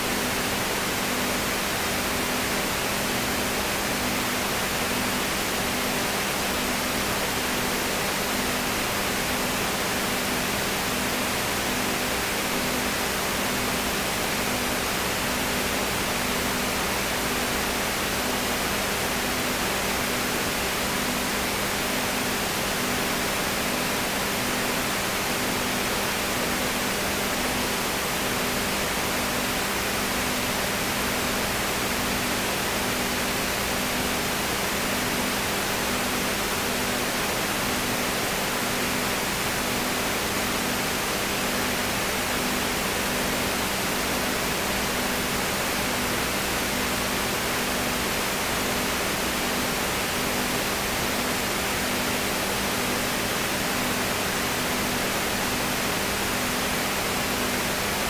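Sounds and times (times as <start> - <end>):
steady loud hiss: 0.0 - 58.0.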